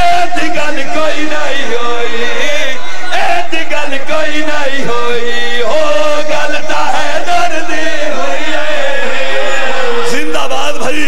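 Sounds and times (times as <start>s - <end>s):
man chanting over loudspeakers: 0.0s - 11.0s.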